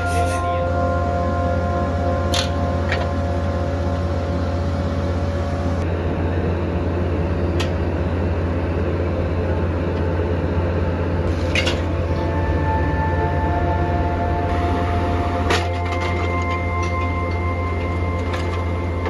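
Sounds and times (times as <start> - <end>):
factory machinery humming: 0.0 - 19.0.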